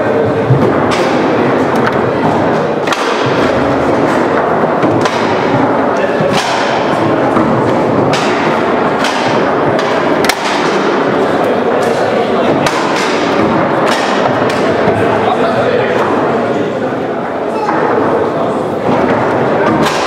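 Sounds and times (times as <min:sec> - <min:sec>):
murmur of voices: 0:00.0 - 0:20.0.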